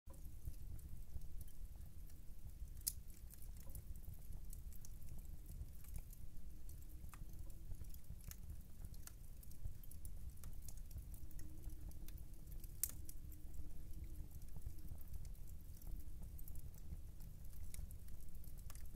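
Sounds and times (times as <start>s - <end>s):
fireplace fire crackling: 0.1s - 18.9s.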